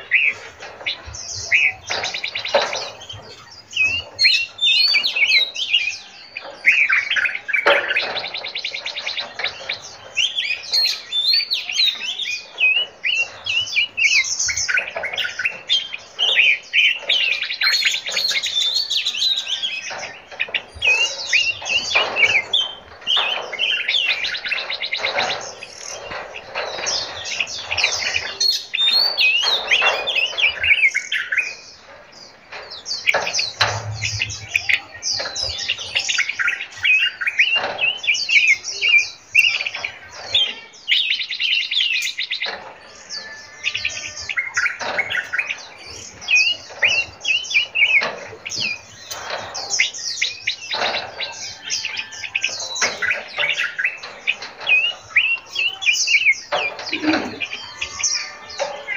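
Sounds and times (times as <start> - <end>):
songbirds chirping and singing: 0.0 - 58.9.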